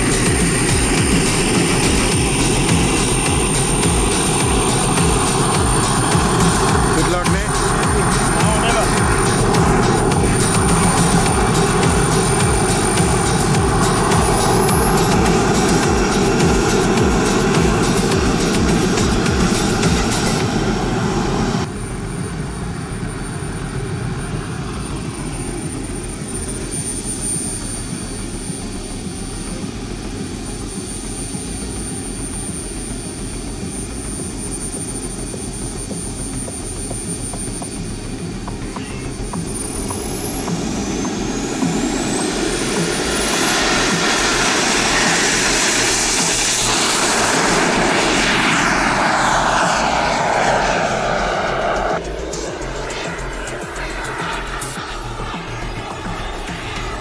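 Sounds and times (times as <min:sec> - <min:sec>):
jet turbine engine whining: 0:00.0 - 0:57.0.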